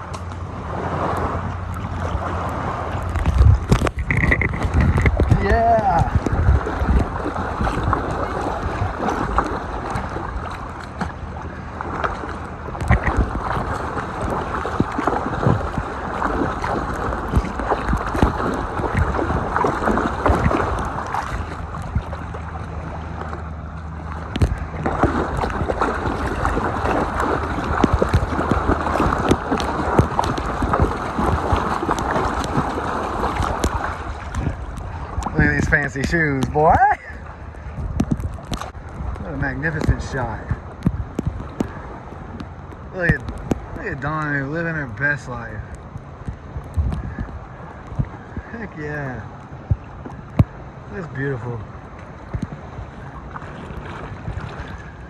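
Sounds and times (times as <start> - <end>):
wind on microphone: 0.0 - 23.2, 23.9 - 51.0, 51.6 - 55.0
lake water sloshing and splashing: 0.0 - 55.0.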